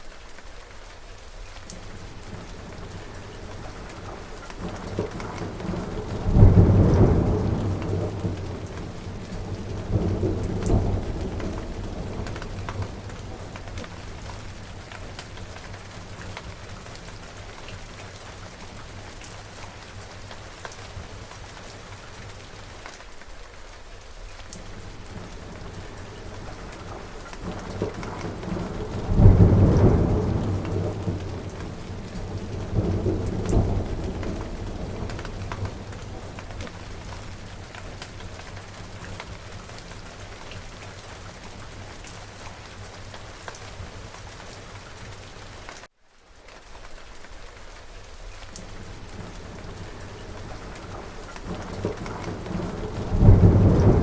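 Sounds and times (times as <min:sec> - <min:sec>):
steady rain falling: 0:00.0 - 0:54.0
thunder clap and rumble: 0:01.7 - 0:22.4, 0:24.6 - 0:45.9, 0:48.6 - 0:54.0.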